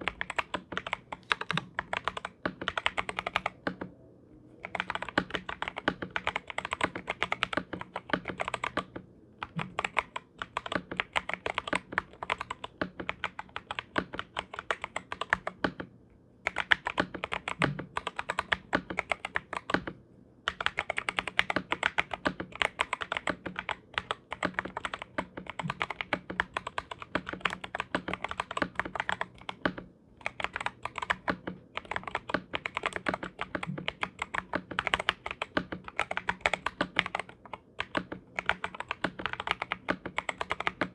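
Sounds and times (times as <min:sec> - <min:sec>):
fast typing on mechanical keyboard: 0:00.0 - 0:03.9, 0:04.6 - 0:40.9.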